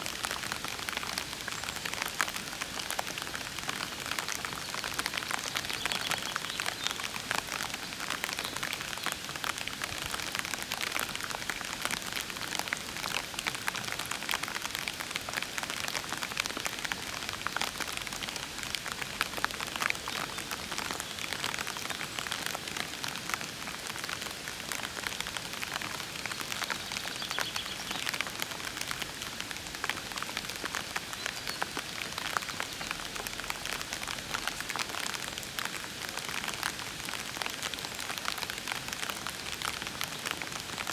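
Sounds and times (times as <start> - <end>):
gentle rain on leaves and puddles: 0.0 - 40.9.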